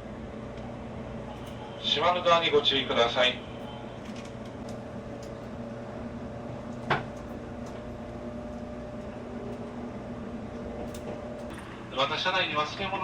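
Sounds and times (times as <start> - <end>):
train cabin hum: 0.0 - 13.0.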